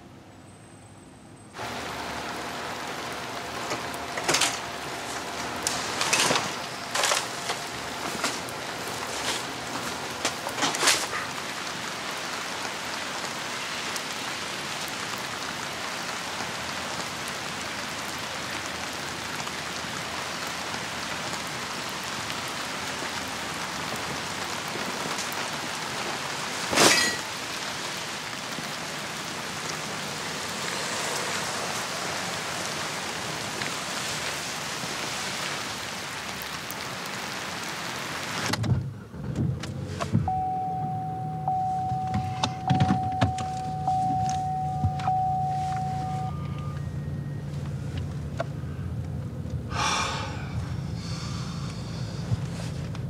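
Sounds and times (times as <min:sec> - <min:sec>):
rain falling on pavement: 0:01.6 - 0:39.2, 0:39.8 - 0:53.0.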